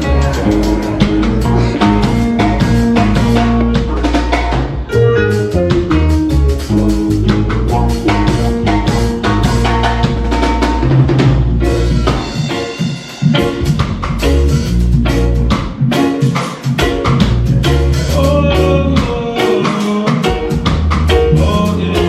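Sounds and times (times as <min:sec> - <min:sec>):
reggae band playing: 0:00.0 - 0:22.0.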